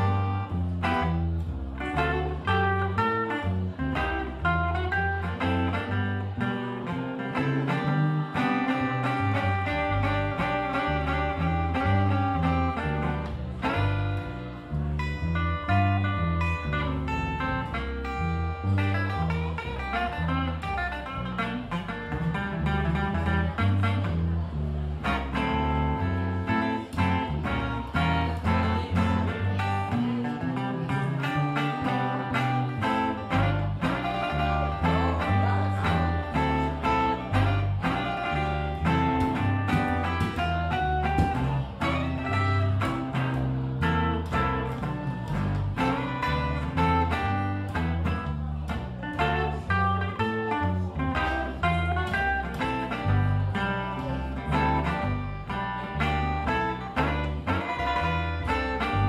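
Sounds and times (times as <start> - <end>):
acoustic guitar picking blues: 0.0 - 59.0
upright double bass: 0.0 - 59.0.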